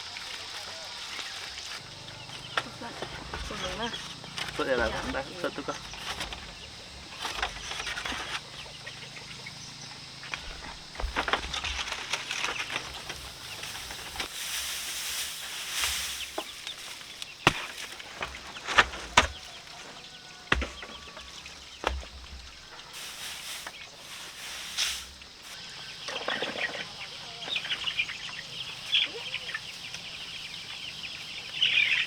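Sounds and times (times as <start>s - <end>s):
chickens clucking: 0.2s - 32.0s.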